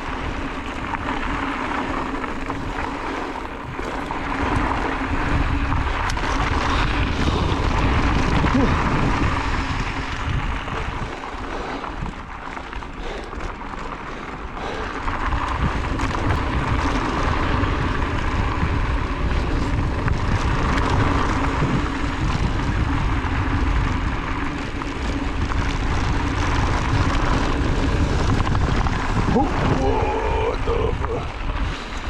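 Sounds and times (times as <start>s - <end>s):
wind on microphone: 0.0s - 13.3s, 14.1s - 32.0s
mountain bike trail noise: 0.0s - 32.0s.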